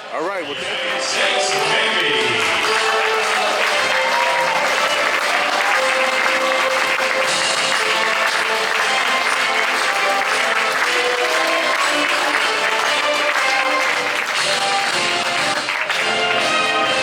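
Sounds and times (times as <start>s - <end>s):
crowd applauding: 0.2s - 17.0s
music playing: 0.2s - 17.0s.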